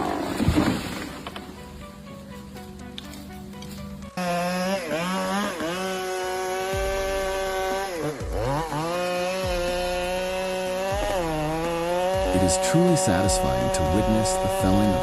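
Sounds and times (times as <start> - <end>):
chainsaw cutting wood: 2.9 - 15.0.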